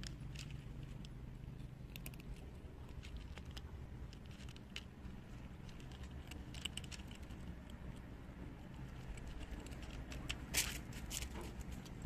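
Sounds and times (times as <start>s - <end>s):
cats crunching dry kibble: 0.0s - 12.0s
low steady rumble: 0.0s - 12.0s.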